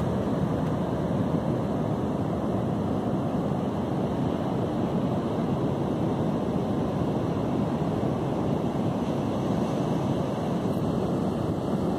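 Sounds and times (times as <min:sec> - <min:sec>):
ocean surf breaking: 0:00.0 - 0:11.9
wind on microphone: 0:00.0 - 0:11.9.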